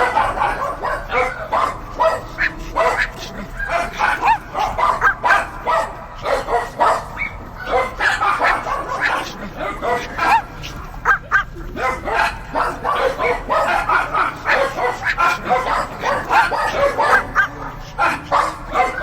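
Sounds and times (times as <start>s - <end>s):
dogs barking and yipping: 0.0s - 19.0s.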